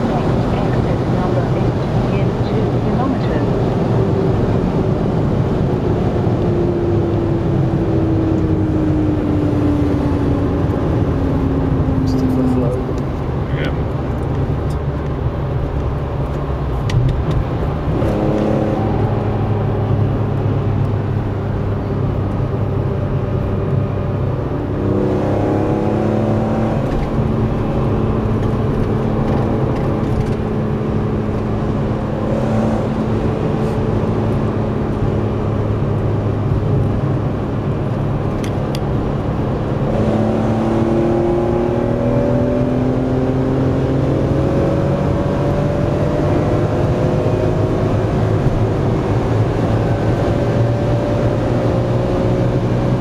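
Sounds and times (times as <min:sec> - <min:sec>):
car engine at speed: 0:00.0 - 0:53.0
road and wind noise: 0:00.0 - 0:53.0.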